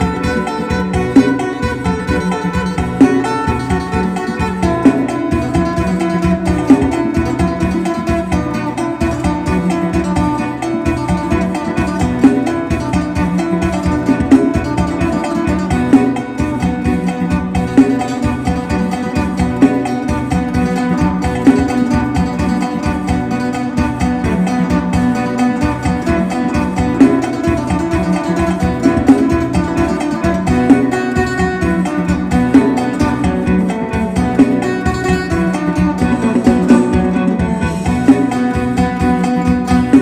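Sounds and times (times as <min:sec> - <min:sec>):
plucked lute fast melody: 0:00.0 - 0:40.0.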